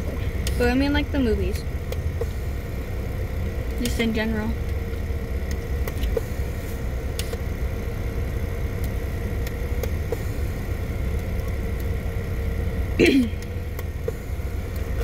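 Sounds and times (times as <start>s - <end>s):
car engine rumbling: 0.0s - 15.0s
faint steady hum: 0.0s - 15.0s.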